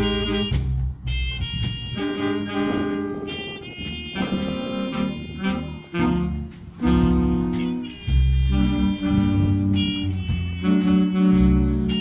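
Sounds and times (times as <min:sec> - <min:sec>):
big band playing live: 0:00.0 - 0:12.0
saxophone section chords: 0:00.0 - 0:12.0.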